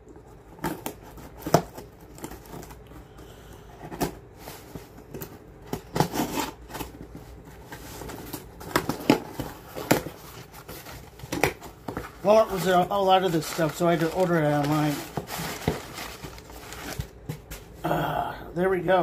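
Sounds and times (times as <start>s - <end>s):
packaging rustling and crinkling: 0.1s - 17.8s.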